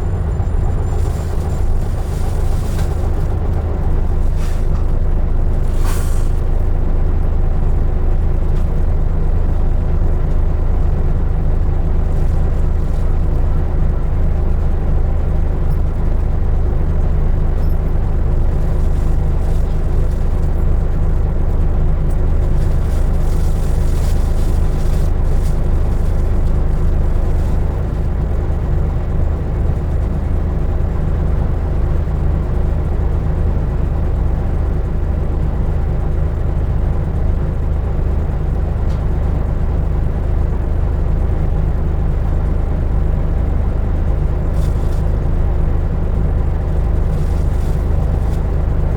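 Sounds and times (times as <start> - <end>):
bus diesel engine running: 0.0 - 48.9
road noise: 0.0 - 48.9.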